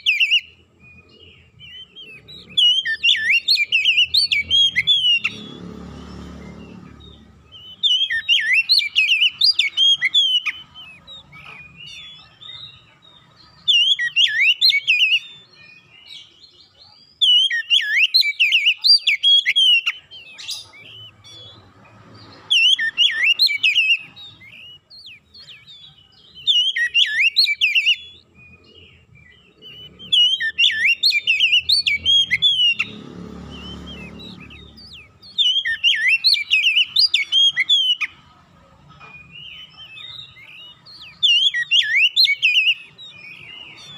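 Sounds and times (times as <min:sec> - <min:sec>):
bird singing whistles: 0:00.0 - 0:38.2, 0:39.0 - 0:43.9.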